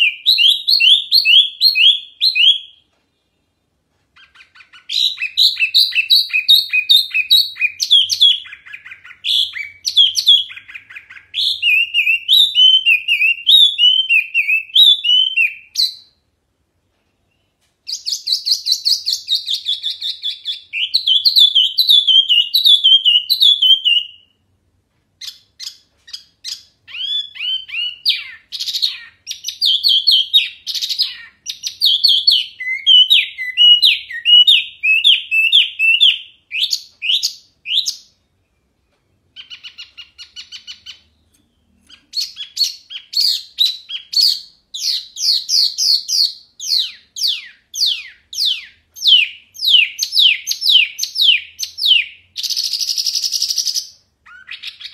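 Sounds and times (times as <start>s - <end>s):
songbird whistling: 0.0s - 2.9s, 4.2s - 16.2s, 17.3s - 24.4s, 25.2s - 38.6s, 39.3s - 54.9s.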